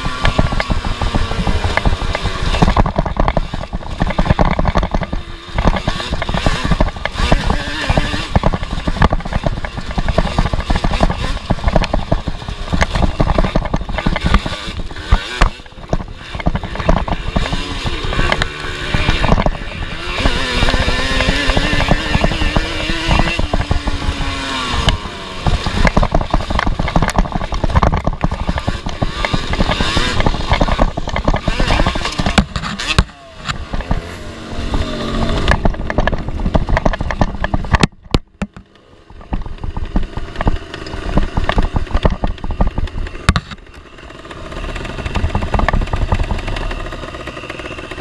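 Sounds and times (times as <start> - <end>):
chassis rattling over rough dirt: 0.0 - 48.0
two-stroke engine revving hard: 0.0 - 48.0.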